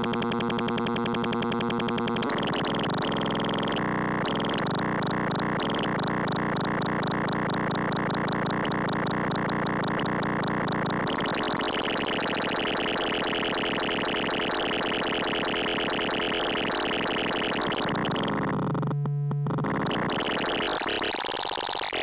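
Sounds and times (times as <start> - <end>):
buzzing pulsing synth tone: 0.0 - 22.0.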